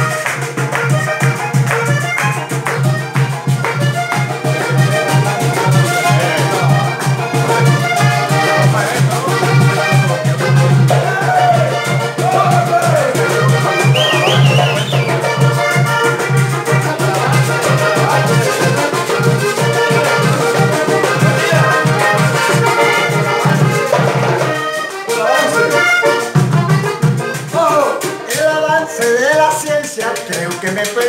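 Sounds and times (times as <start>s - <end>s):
accordion melody: 0.0s - 31.0s
strummed guitar: 0.0s - 31.0s
steady low beat: 2.5s - 29.2s.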